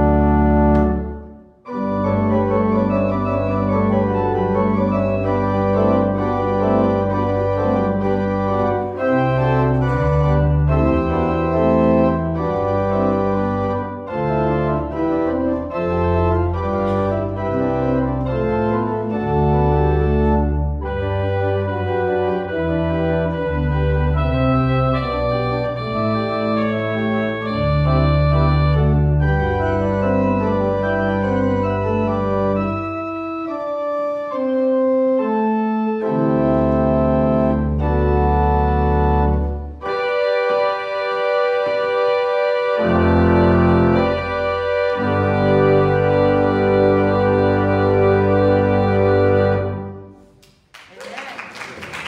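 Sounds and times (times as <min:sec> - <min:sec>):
organ playing held chords: 0:00.0 - 0:50.3.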